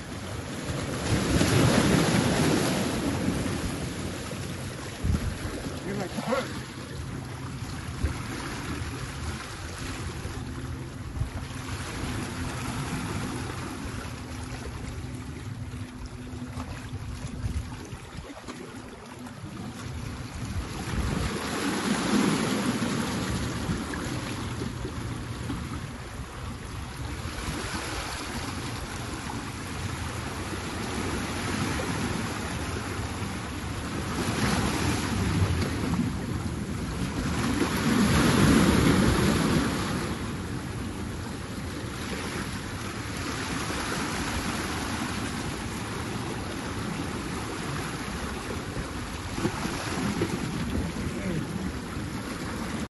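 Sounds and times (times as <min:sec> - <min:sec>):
sea waves washing over boulders: 0:00.0 - 0:52.9.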